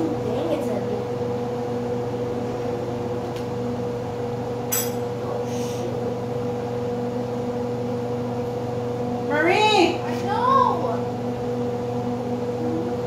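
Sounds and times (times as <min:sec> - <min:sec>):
appliance motor humming: 0:00.0 - 0:13.0.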